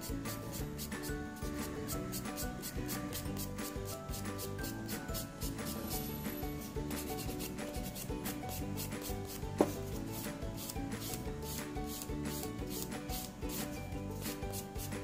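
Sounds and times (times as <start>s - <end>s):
soft background music: 0.0s - 15.0s
nail file rasping on fingernails: 0.6s - 1.1s, 1.9s - 5.9s, 6.8s - 15.0s.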